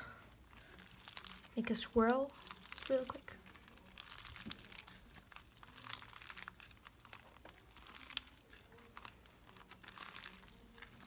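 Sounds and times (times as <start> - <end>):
slime crackling crunches: 0.0 - 11.0.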